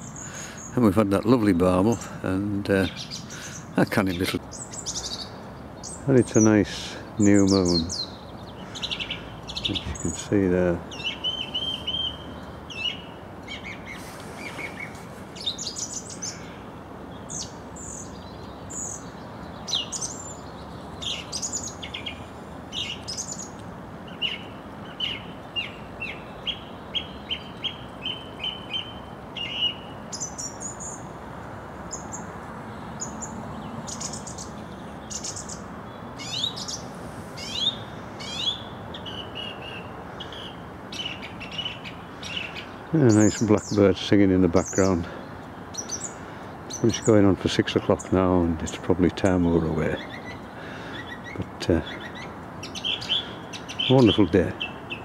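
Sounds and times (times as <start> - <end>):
blackbird singing: 0.0 - 31.1, 31.9 - 55.0
steady low hiss: 0.0 - 55.0.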